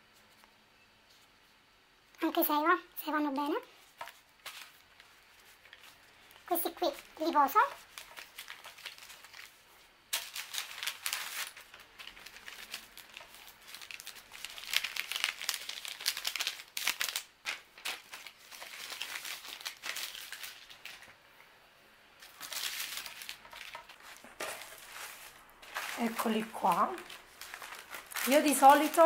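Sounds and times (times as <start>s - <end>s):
pastry sheets and paper crinkling: 2.2s - 21.4s, 22.2s - 29.0s.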